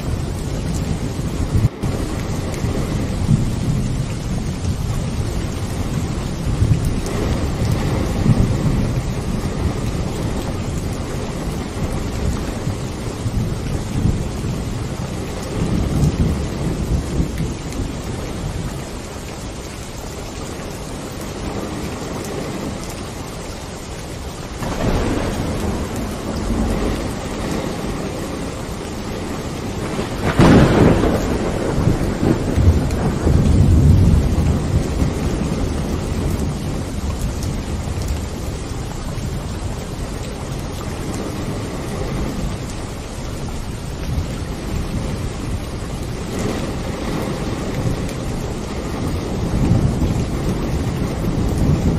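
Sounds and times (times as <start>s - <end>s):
rolling thunder: 0.0s - 19.0s, 24.6s - 51.9s
steady rain: 0.0s - 51.9s.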